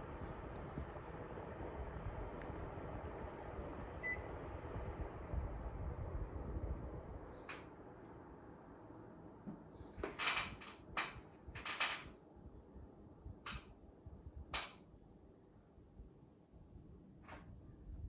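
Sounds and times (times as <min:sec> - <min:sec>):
air conditioner fan: 0:00.0 - 0:18.0.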